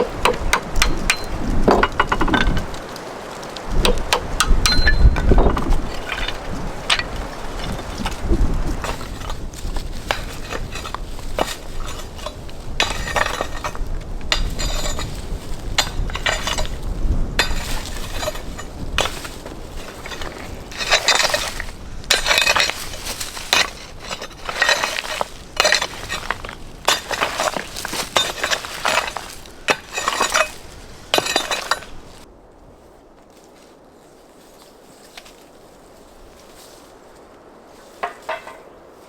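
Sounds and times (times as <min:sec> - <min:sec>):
stones clinking and knocking: 0:00.0 - 0:03.0, 0:03.6 - 0:32.2
stones scraping: 0:00.0 - 0:32.3.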